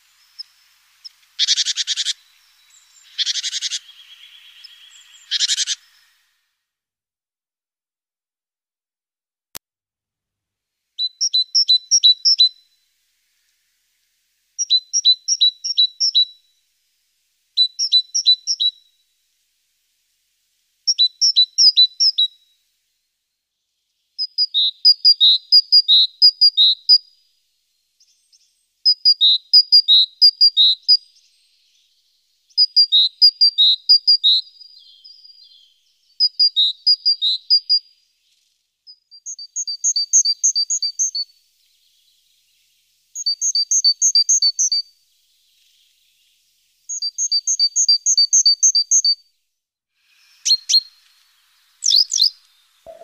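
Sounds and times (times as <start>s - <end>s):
songbird singing: 0.0s - 6.5s, 11.0s - 49.3s, 50.0s - 53.0s.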